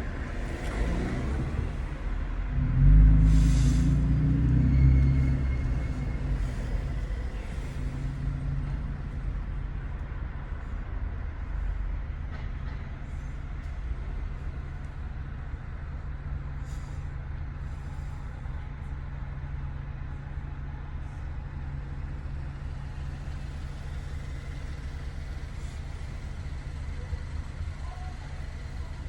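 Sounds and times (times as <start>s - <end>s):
truck exhaust drone: 0.0s - 29.0s.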